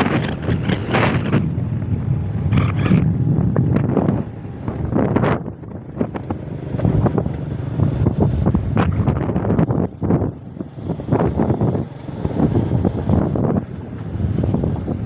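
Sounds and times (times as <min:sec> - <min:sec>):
low continuous rumble: 0:00.0 - 0:15.0
wind buffeting microphone: 0:00.0 - 0:15.0.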